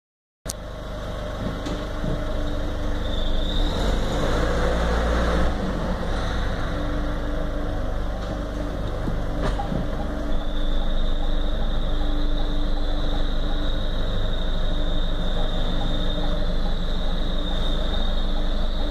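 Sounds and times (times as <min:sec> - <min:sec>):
diesel engine running: 0:00.5 - 0:18.9.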